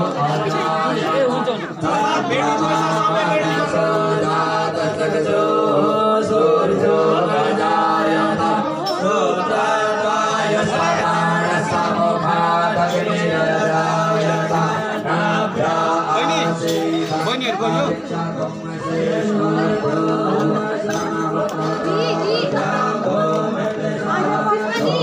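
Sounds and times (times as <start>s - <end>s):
voices chanting: 0.0s - 25.0s.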